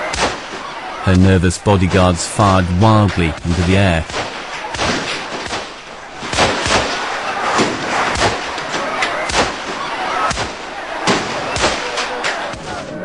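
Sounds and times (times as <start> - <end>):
gunshots: 0.0 - 0.9, 1.9 - 13.0
crowd noise: 0.0 - 13.0.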